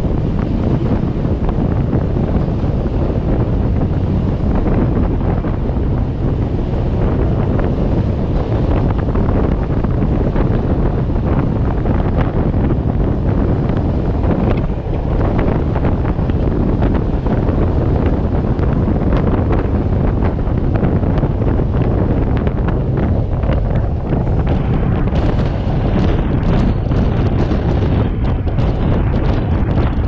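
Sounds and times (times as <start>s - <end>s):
train carriage rumbling on track: 0.0s - 30.0s
wind buffeting a microphone: 0.0s - 30.0s.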